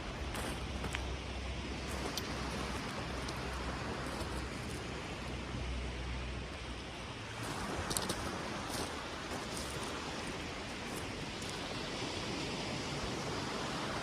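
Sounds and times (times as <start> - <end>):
surf hissing: 0.0 - 14.0.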